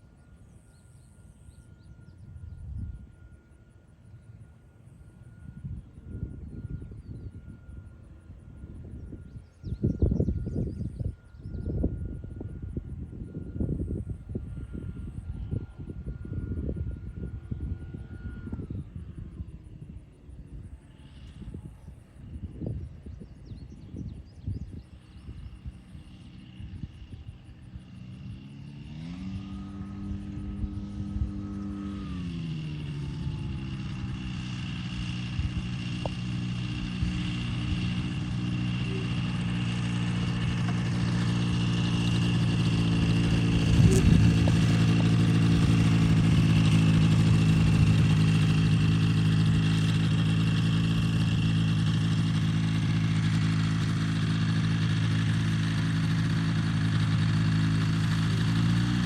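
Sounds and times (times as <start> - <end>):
ultralight engine and propeller: 0.0 - 59.0.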